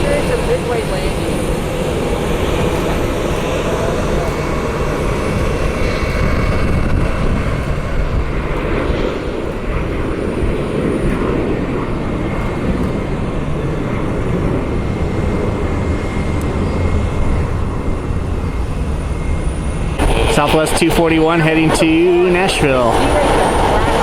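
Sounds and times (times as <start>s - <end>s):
faint high whine: 0.0s - 24.0s
jet engines rumbling: 0.0s - 24.0s.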